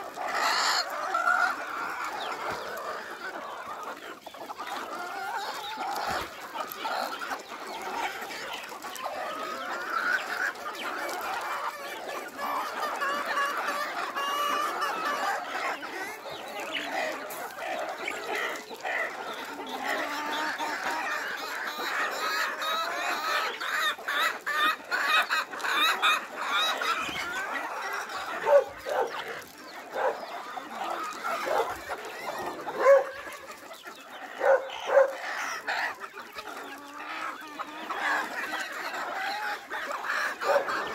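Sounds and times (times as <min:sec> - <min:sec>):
hens and roosters clucking: 0:00.0 - 0:40.9
loud chicken calls: 0:00.0 - 0:40.9.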